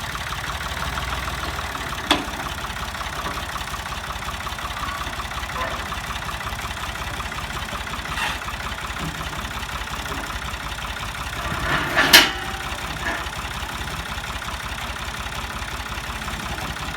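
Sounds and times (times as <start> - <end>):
heavy equipment engine idling: 0.0 - 16.9.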